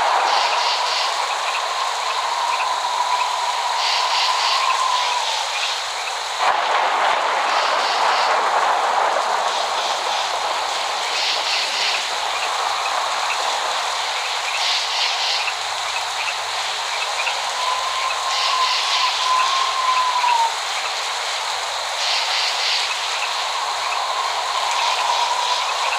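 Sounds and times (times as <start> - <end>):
heavy rain hiss: 0.0 - 25.9.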